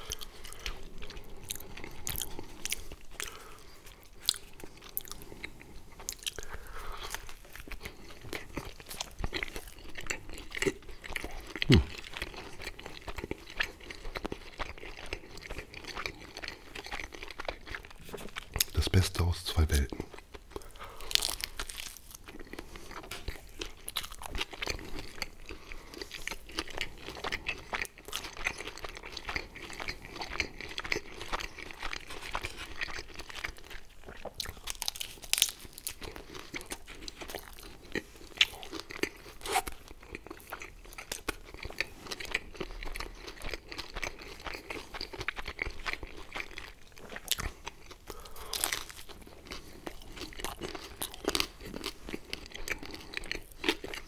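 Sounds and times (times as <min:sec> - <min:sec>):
chewing crisp crunches: 0:00.0 - 0:54.0.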